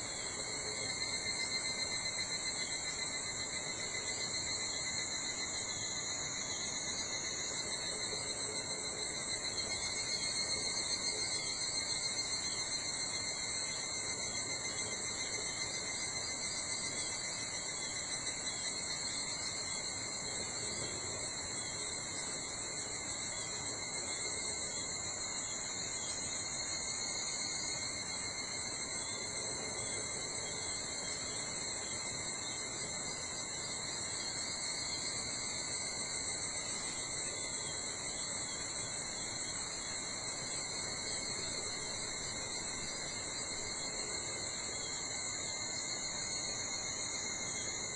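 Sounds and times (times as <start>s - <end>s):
insect chorus: 0.0s - 47.9s
soft forest background: 0.0s - 47.9s.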